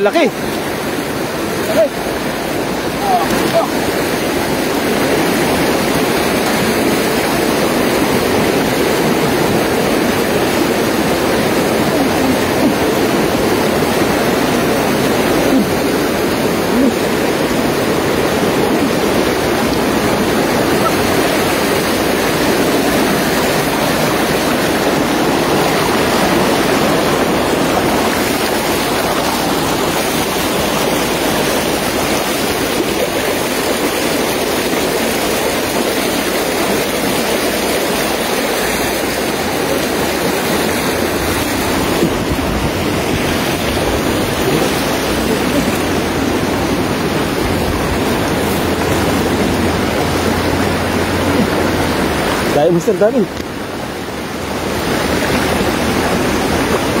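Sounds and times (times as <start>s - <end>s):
water rushing in channel: 0.0s - 57.0s.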